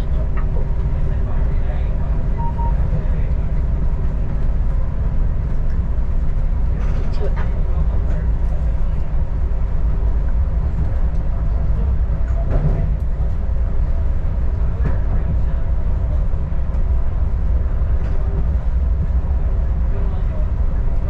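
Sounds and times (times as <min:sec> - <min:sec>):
railcar engine rumble: 0:00.0 - 0:21.0.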